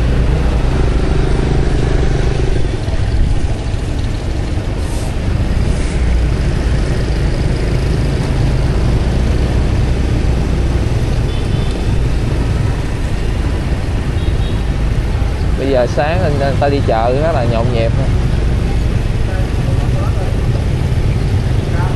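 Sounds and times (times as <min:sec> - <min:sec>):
motorbike engine: 0:00.0 - 0:21.9
other motorbikes running: 0:00.0 - 0:21.9
road noise: 0:00.0 - 0:21.9.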